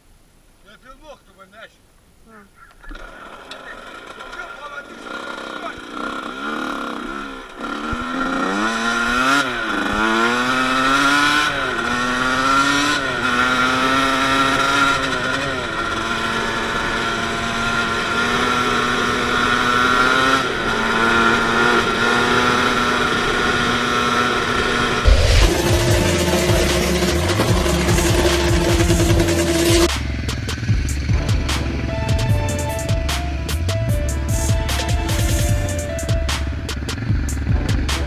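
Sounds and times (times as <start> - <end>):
dirt bike engine accelerating: 2.8 - 38.0.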